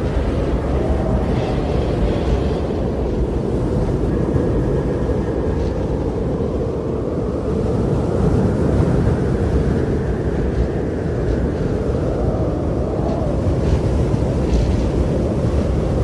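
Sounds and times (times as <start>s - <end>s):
strong blizzard wind: 0.0s - 16.0s.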